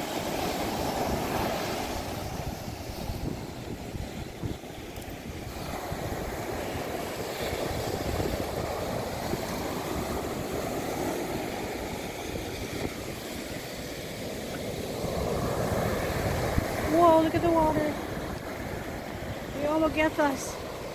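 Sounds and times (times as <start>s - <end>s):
ocean surf breaking on beach: 0.0s - 20.9s
wind rumbling on microphone: 0.0s - 20.9s.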